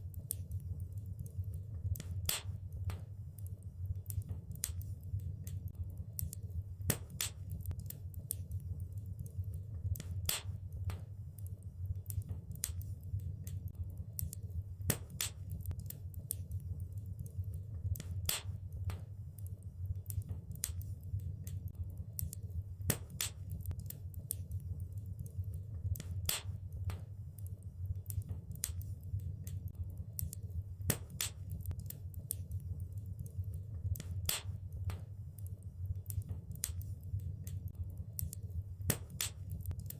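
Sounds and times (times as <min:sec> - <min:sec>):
wood fire crackling: 0:00.0 - 0:39.9
fire popping: 0:00.2 - 0:09.0, 0:09.8 - 0:39.9.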